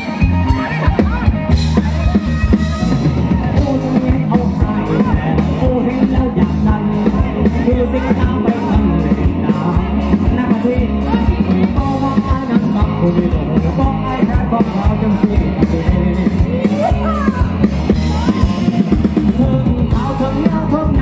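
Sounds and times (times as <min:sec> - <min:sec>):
drums keeping a steady beat: 0:00.0 - 0:21.0
electric guitars: 0:00.0 - 0:21.0
person singing into a microphone: 0:02.1 - 0:21.0.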